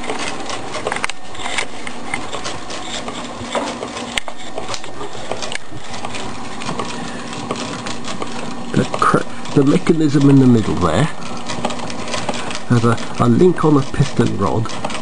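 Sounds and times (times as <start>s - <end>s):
model engine gears clattering: 0.0s - 15.0s.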